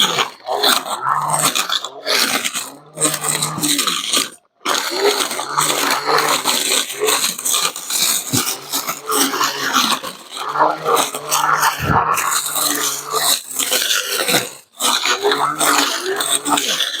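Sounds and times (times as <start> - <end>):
blade cutting grass: 0.0 - 17.0
brush cutter motor humming: 0.0 - 17.0.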